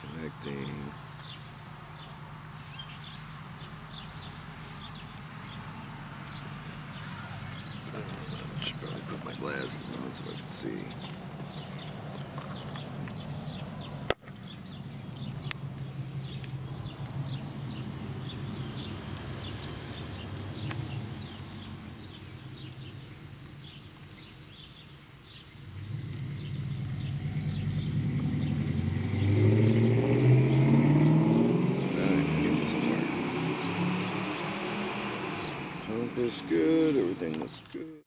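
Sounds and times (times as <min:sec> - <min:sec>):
vehicle engine approaching: 0:00.0 - 0:24.2, 0:25.3 - 0:38.0.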